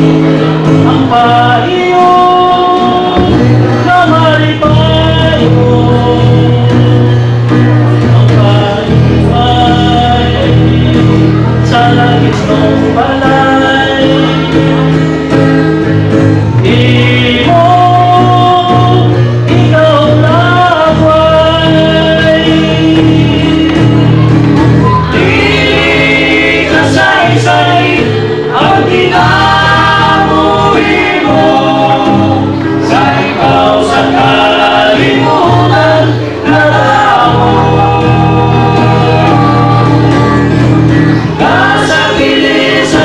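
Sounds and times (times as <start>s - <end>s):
men singing together: 0.0s - 15.1s, 16.5s - 43.0s
acoustic guitar: 0.0s - 43.0s
lead voice singing into microphone: 0.0s - 43.0s.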